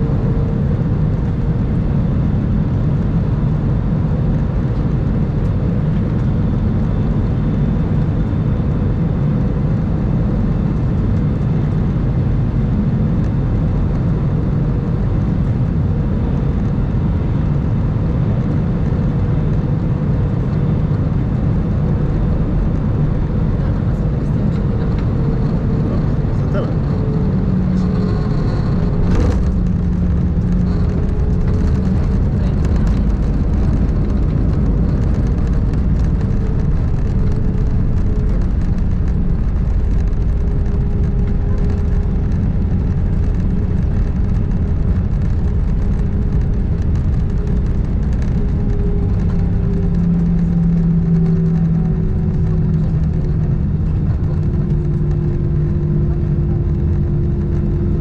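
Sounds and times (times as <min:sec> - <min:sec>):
rumble of wheels on runway: 0:00.0 - 0:58.0
jet engines humming: 0:04.7 - 0:58.0.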